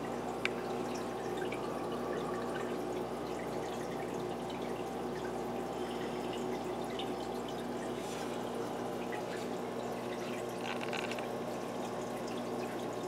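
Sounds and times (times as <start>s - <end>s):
low steady hum: 0.0s - 13.0s
water trickling and dripping: 0.0s - 13.0s.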